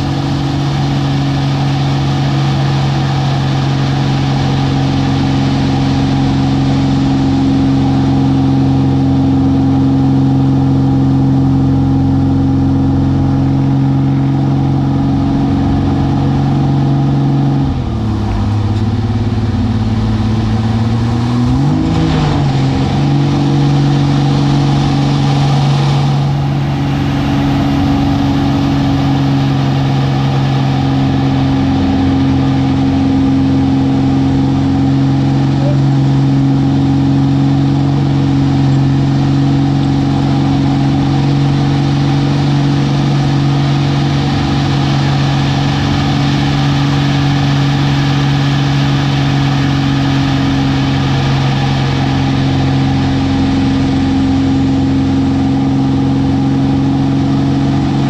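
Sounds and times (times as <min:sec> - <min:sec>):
plane engine and propeller: 0:00.0 - 0:58.0.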